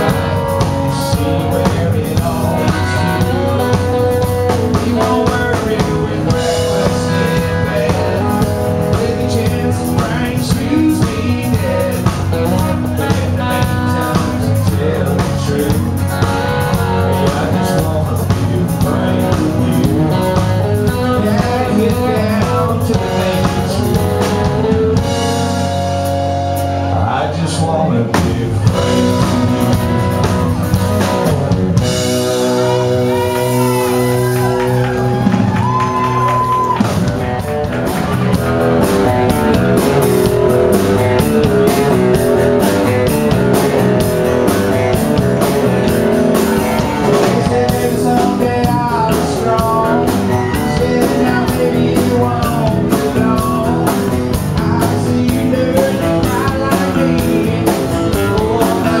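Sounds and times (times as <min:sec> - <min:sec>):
person singing: 0:00.0 - 0:25.6, 0:26.9 - 0:59.0
country rock band playing: 0:00.0 - 0:59.0
drums: 0:00.0 - 0:59.0.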